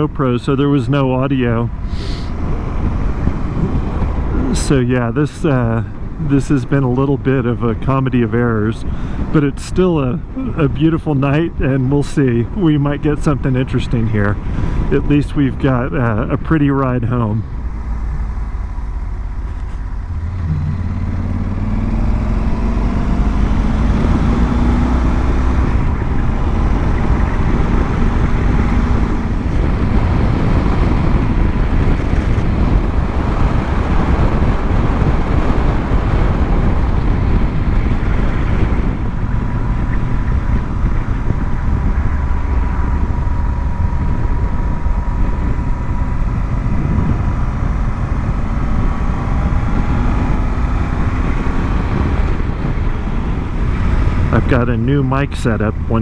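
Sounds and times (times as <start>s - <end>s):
road noise: 0.0s - 56.0s
rushing wind: 0.0s - 56.0s
motorcycle engine: 1.0s - 4.9s, 10.0s - 56.0s.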